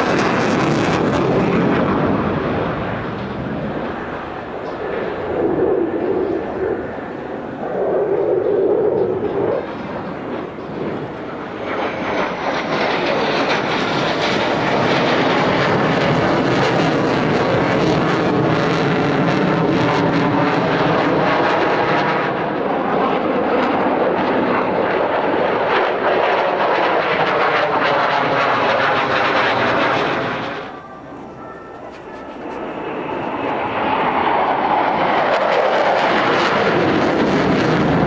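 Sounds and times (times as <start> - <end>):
jet engine crackling roar: 0.0 - 38.0.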